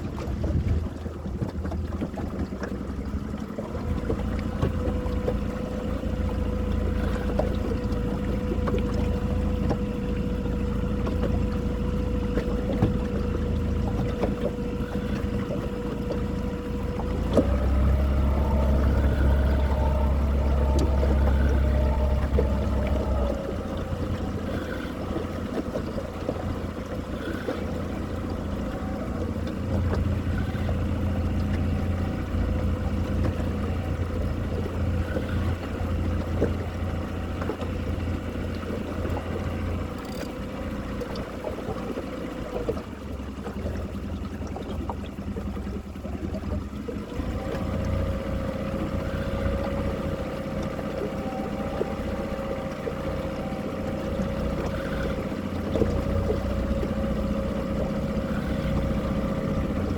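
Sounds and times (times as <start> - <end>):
boat motor humming: 0.0 - 59.9
water noise: 0.0 - 59.9.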